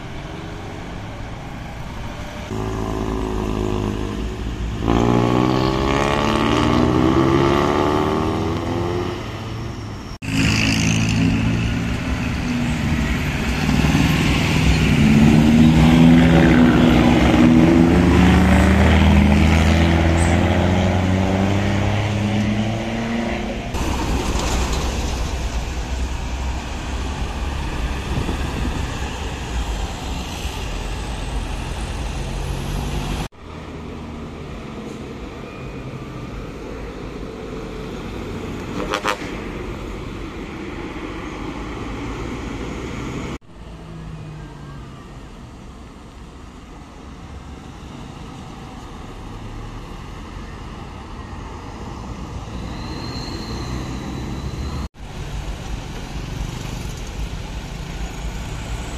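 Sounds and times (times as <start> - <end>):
heavy vehicles driving past: 0.0 - 58.9.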